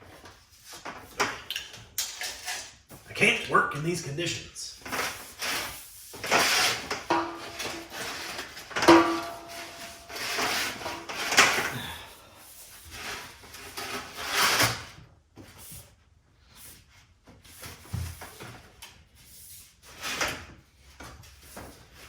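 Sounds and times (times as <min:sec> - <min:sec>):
objects rustling and clunking: 0:00.0 - 0:03.5, 0:04.2 - 0:22.0.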